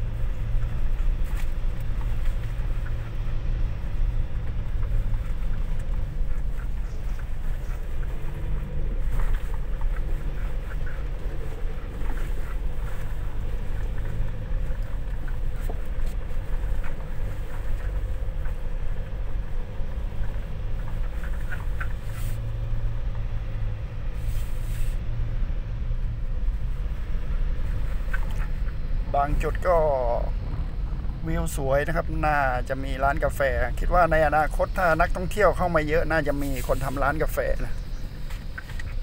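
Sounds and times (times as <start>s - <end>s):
pickup engine and tyre drone: 0.0s - 39.0s.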